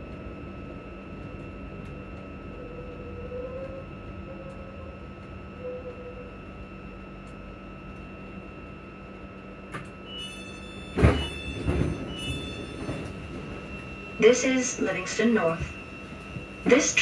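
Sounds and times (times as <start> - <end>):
train equipment humming: 0.0 - 17.0.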